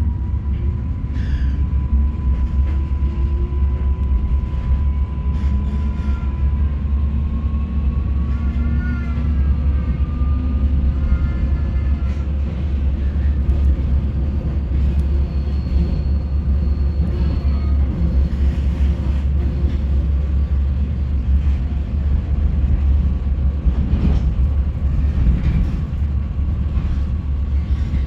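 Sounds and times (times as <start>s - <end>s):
train rumbling on track: 0.0s - 28.0s.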